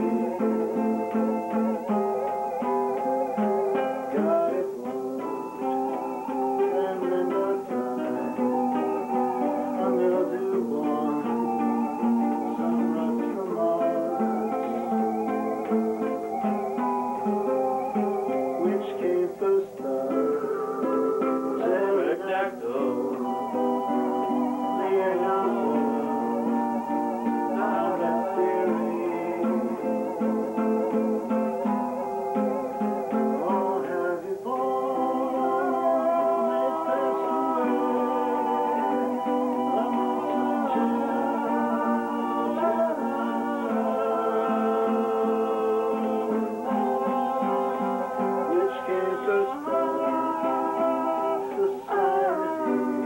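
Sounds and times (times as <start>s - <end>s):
guitars playing chords: 0.0s - 53.0s.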